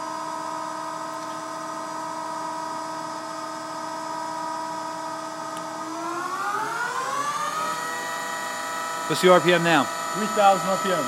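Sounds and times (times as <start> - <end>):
lathe spindle whine: 0.0 - 11.0.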